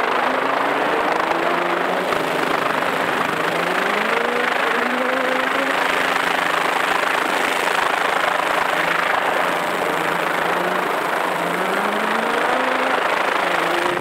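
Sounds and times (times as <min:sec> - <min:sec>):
rally car engine revving: 0:00.0 - 0:06.8, 0:08.5 - 0:14.0
steady rushing noise: 0:00.0 - 0:14.0.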